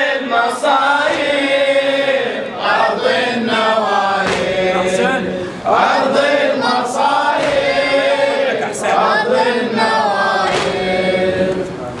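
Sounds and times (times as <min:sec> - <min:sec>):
voices chanting together: 0:00.0 - 0:12.0.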